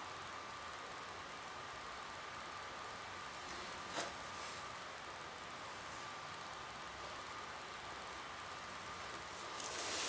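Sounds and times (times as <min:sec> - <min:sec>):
room tone hiss: 0:00.0 - 0:10.0.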